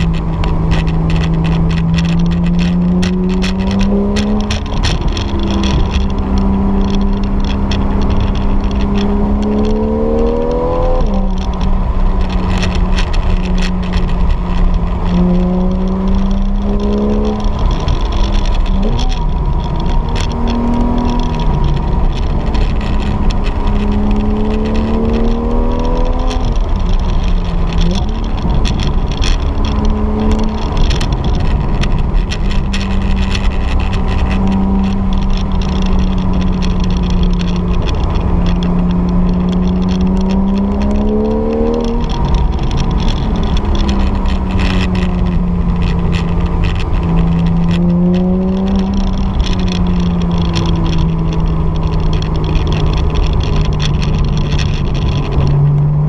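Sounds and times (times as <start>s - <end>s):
car engine revving: 0.0s - 56.0s
road and tyre rumble: 0.0s - 56.0s.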